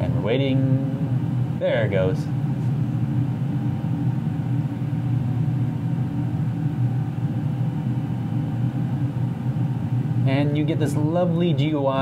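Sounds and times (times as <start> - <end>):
low-pitched hum: 0.0 - 12.0.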